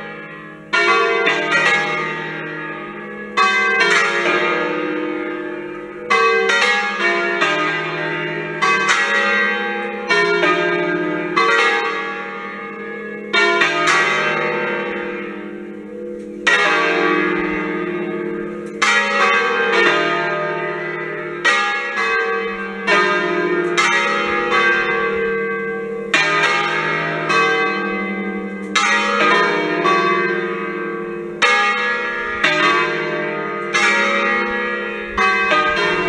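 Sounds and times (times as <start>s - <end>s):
church bells pealing: 0.0s - 36.0s.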